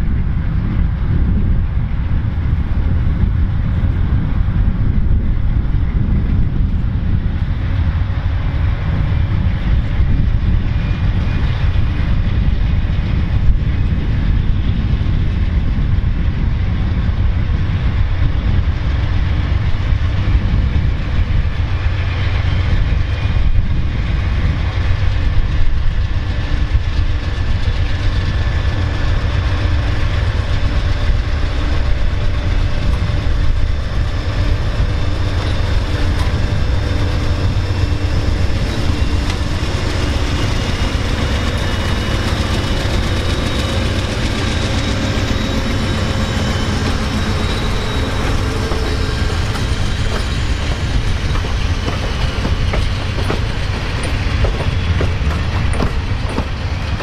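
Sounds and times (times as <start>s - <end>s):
diesel locomotive engines rumbling: 0.0s - 57.0s
train wheels on rails: 0.0s - 57.0s.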